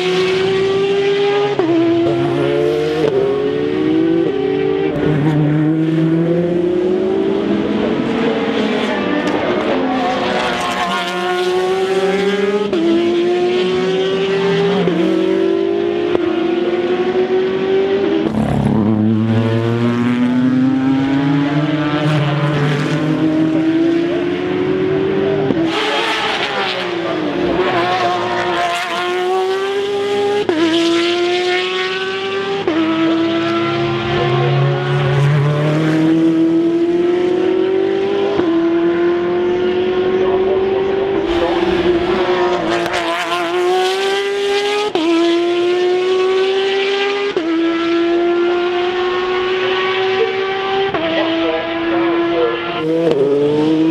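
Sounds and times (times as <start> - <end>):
racing car engines upshifting: 0.0 - 53.9
racing cars passing by: 0.0 - 53.9.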